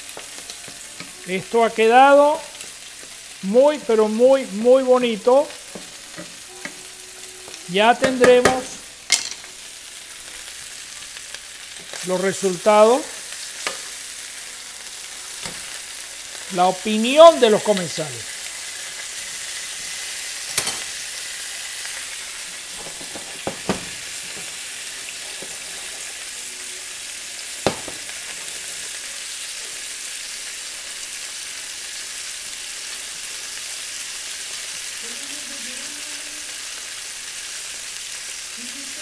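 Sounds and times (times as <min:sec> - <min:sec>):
food sizzling in pan: 0:00.0 - 0:39.0.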